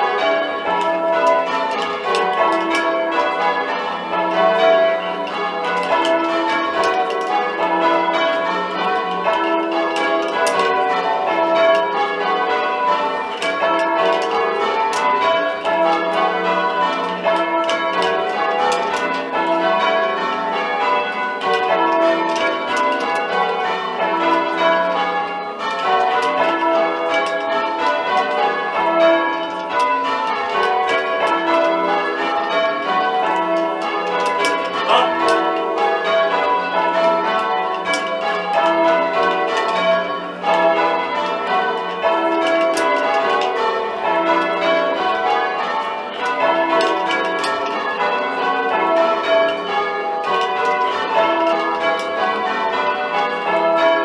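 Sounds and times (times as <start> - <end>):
church bells ringing in changes: 0.0 - 54.0.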